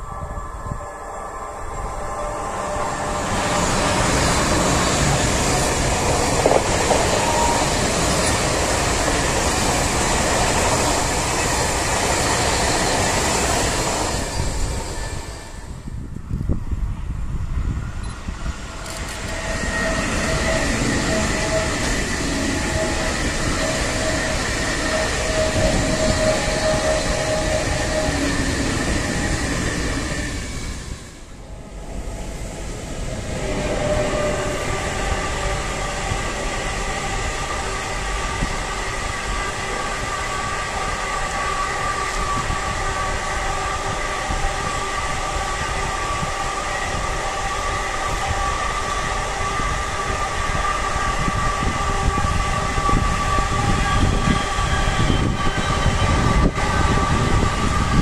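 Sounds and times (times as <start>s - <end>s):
freight train rolling past: 0.0s - 58.0s
high-speed train passing: 0.0s - 58.0s.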